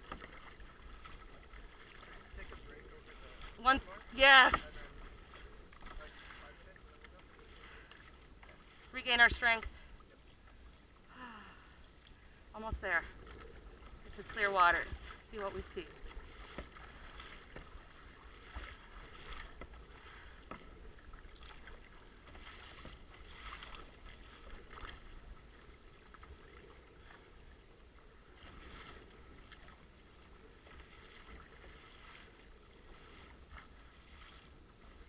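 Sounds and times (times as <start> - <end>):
kayak paddle strokes: 0.0 - 35.0
low steady rumble: 0.0 - 35.0
water splashing against kayak hull: 0.0 - 35.0.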